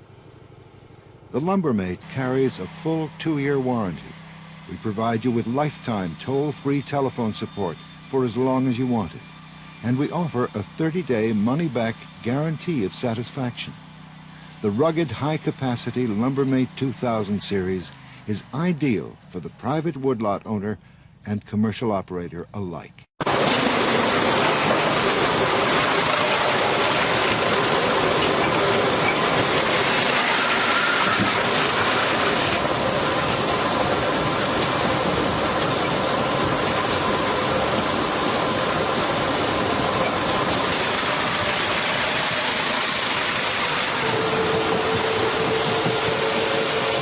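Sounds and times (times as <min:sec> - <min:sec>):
engine-driven machinery running: 0:00.0 - 0:20.2, 0:23.2 - 0:47.0.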